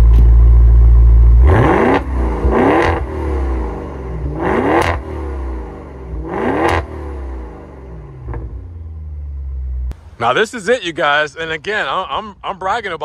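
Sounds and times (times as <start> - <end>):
car engine idling: 0.0 - 13.0
engine throttle blips: 0.0 - 13.0.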